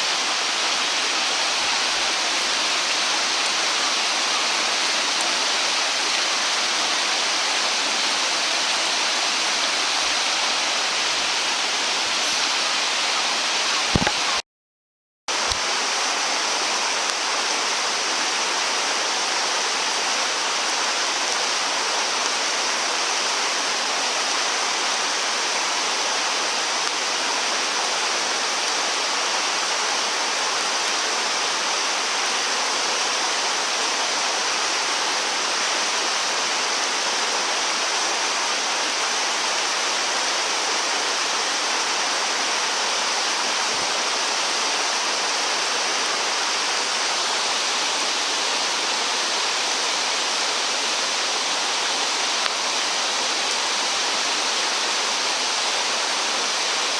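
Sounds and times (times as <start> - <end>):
stream water flowing: 0.0 - 14.4, 15.3 - 56.9.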